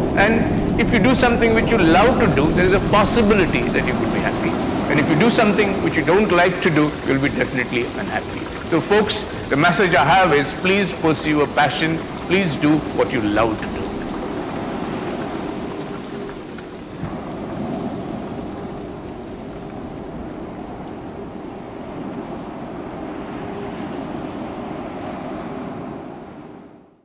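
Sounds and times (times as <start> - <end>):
surf breaking on a beach: 0.0 - 26.8
wind: 0.0 - 27.0.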